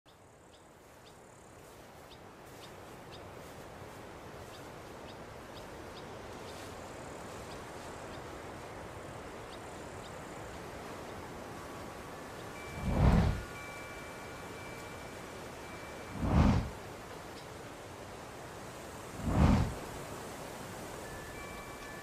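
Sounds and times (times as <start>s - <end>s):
rushing outdoor noise: 0.1s - 22.0s.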